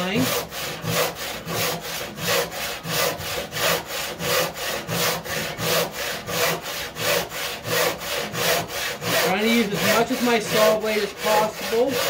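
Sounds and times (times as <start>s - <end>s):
hand saw cutting wood: 0.0s - 12.0s.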